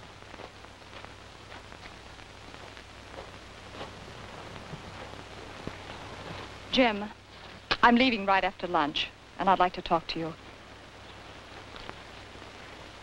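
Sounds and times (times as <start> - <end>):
film soundtrack hiss and crackle: 0.0 - 13.0
low steady hum: 0.0 - 13.0.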